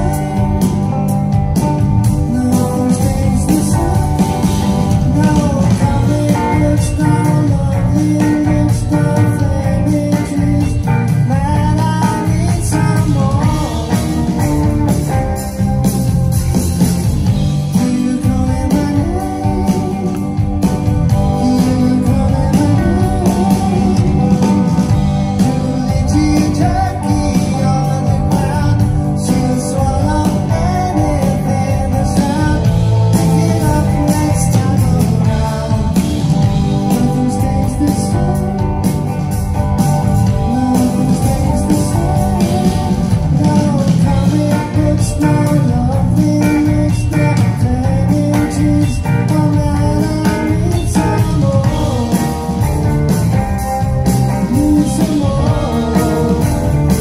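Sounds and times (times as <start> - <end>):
man singing lead vocal: 0.0 - 1.0, 1.6 - 16.1, 17.4 - 39.1, 40.0 - 53.1, 54.2 - 57.0
live rock band playing: 0.0 - 57.0.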